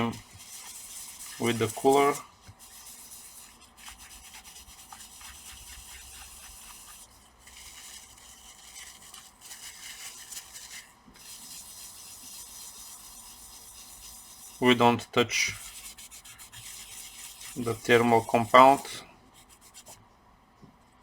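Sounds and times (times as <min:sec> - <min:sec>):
cotton swab scrubbing metal: 0:00.0 - 0:20.0.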